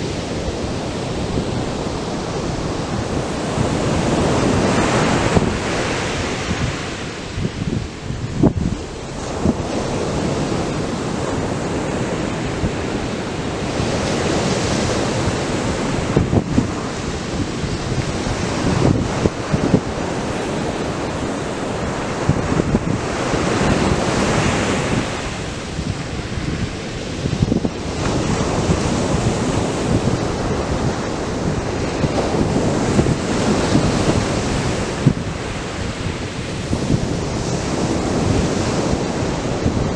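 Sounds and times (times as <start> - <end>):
surf breaking on a beach: 0.0 - 39.9
wind buffeting microphone: 0.0 - 39.9.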